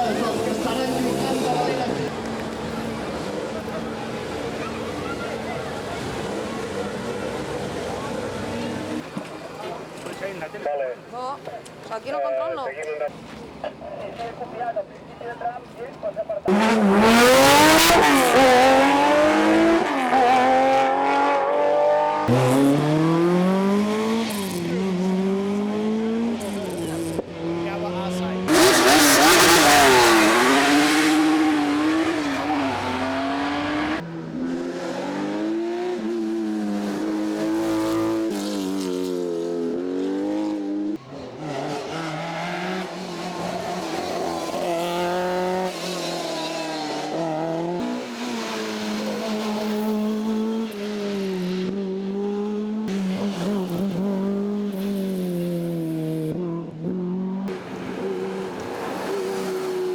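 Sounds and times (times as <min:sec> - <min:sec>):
rally cars revving past: 0:00.0 - 0:09.2, 0:16.5 - 0:59.9.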